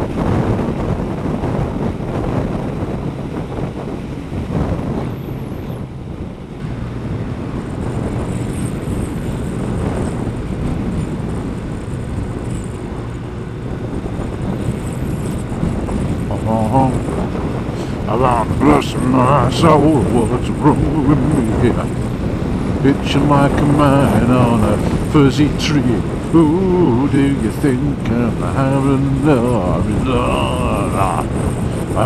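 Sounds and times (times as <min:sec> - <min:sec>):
motorcycle engine cruising: 0:00.0 - 0:32.0
wind buffeting microphone: 0:00.0 - 0:32.0.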